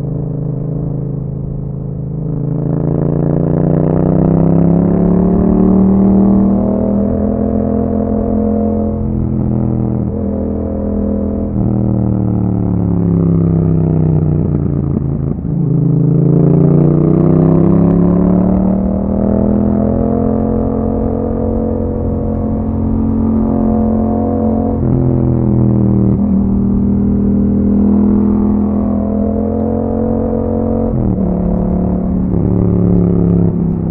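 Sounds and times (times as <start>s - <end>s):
motorcycle exhaust note: 0.0s - 33.9s.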